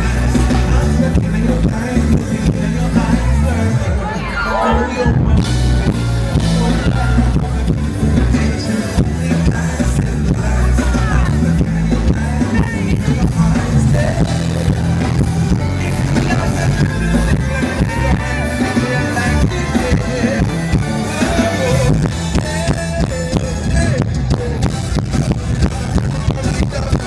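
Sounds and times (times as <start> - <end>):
live band playing: 0.0 - 27.0
person singing: 0.0 - 27.0.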